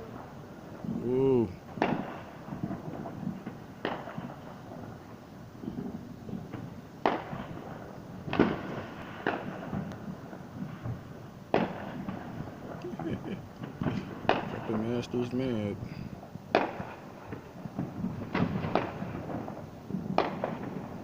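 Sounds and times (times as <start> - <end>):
faint fireworks pops: 0.0 - 21.0
fireworks bangs: 0.0 - 21.0.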